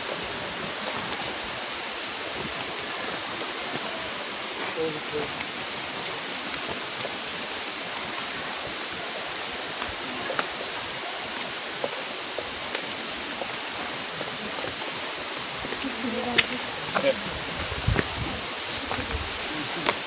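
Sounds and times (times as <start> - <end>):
flowing stream water: 0.0 - 20.0.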